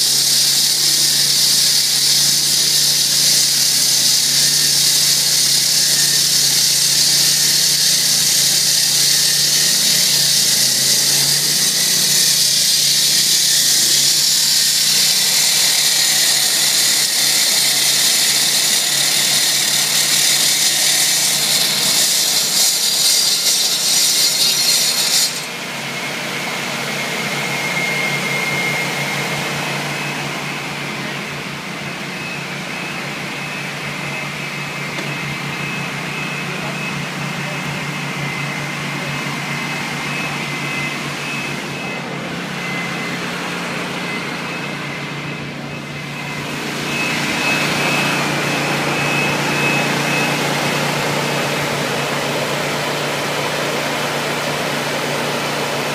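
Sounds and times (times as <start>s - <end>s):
concrete saw grinding: 0.0s - 55.9s
machine running: 0.1s - 55.9s.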